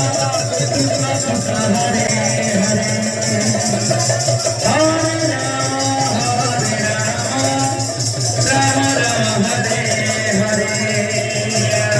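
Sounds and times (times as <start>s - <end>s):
hand cymbals jingling: 0.0s - 11.9s.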